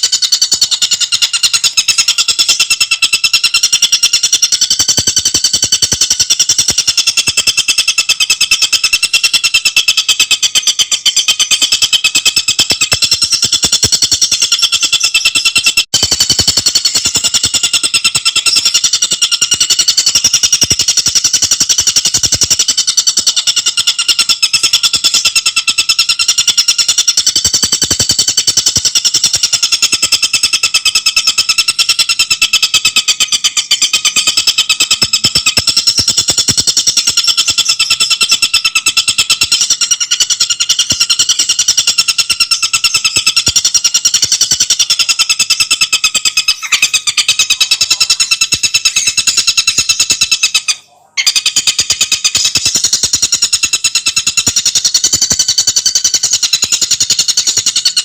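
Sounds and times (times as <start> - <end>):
bird rattling trill: 0.0 - 58.0.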